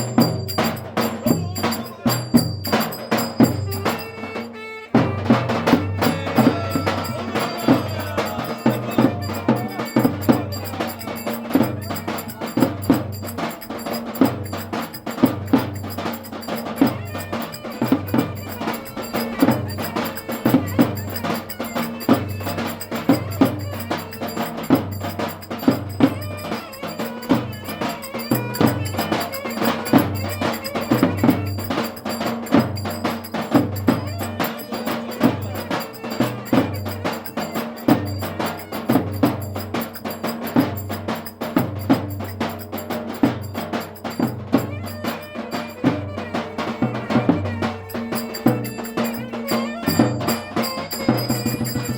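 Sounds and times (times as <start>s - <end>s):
heavy drum beat: 0.0s - 51.9s.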